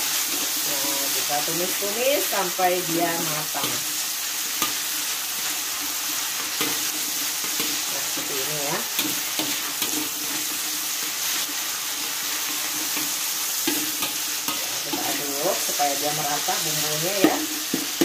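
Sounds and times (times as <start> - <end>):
meat sizzling in oil: 0.0 - 18.0
metal spoon scraping wok: 0.0 - 18.0.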